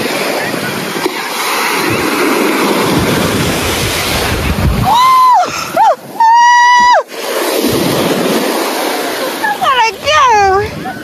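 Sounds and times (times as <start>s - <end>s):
ocean surf breaking: 0.0s - 11.0s
wind on microphone: 0.0s - 11.0s.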